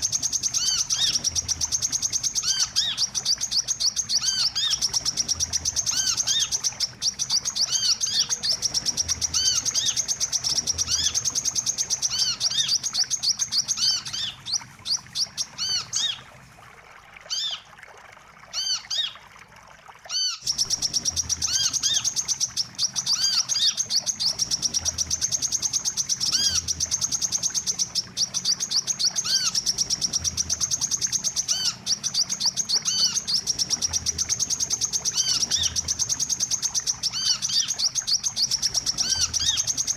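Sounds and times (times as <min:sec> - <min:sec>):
sunbird chittering trill: 0:00.0 - 0:16.2, 0:20.1 - 0:39.9.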